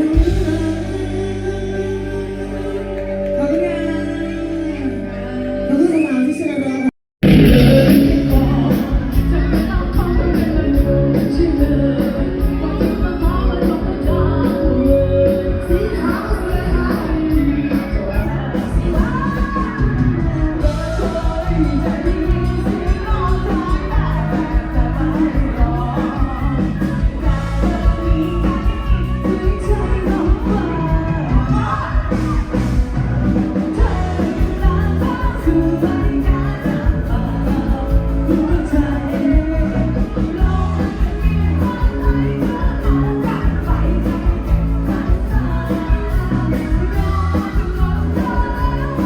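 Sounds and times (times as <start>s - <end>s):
heavy bass and drumbeat: 0.0s - 1.5s, 7.2s - 49.0s
live band playing: 0.0s - 49.0s
person singing: 0.0s - 49.0s.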